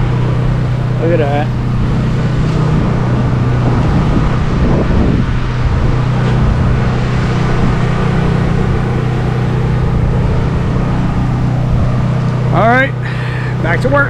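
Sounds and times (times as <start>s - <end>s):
pressure washer engine humming: 0.0s - 14.0s.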